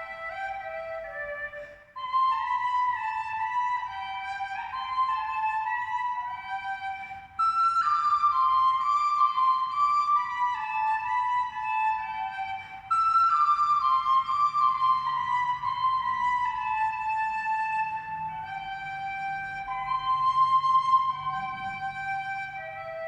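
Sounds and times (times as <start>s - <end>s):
flute-like melody: 0.0s - 23.0s.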